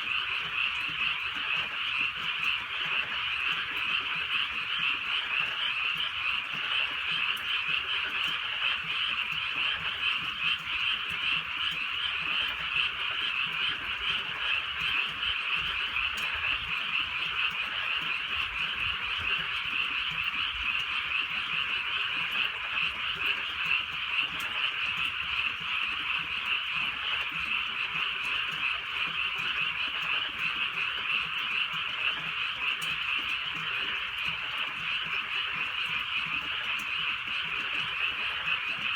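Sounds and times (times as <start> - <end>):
chorus of frogs croaking: 0.0 - 38.9.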